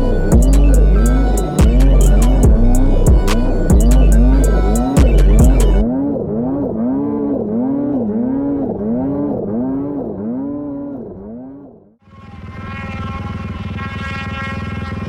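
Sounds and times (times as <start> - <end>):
steady engine drone: 0.0 - 9.3, 12.0 - 15.0
snowmobile engine revving: 0.0 - 15.0.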